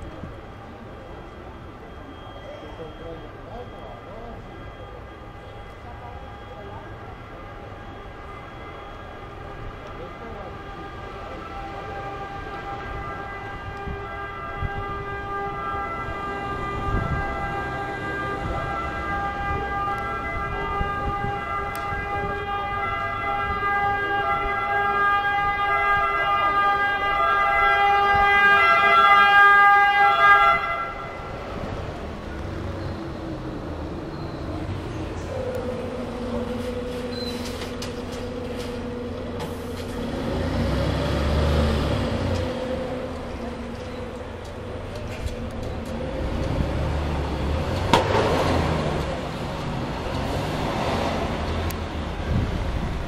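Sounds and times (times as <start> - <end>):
fire engine siren: 0.0 - 53.0.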